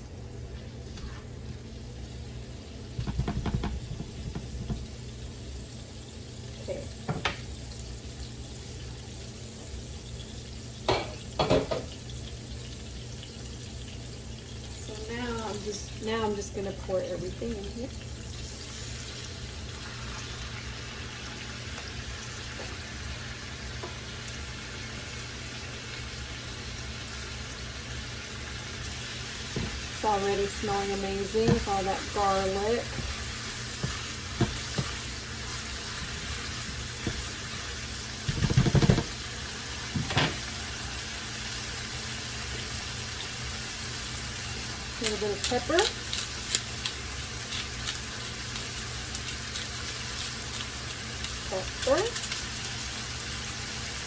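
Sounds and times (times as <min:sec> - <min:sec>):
vegetables sizzling in a pan: 0:00.0 - 0:54.0.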